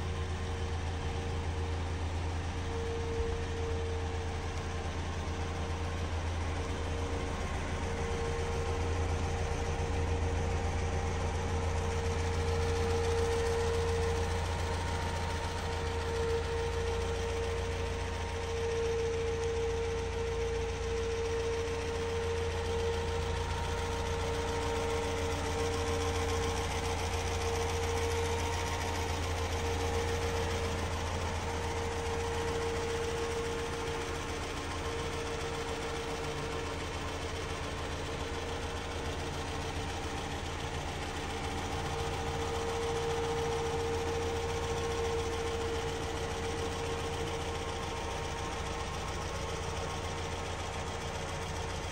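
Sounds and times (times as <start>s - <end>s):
car engine running steadily: 0.0s - 51.9s.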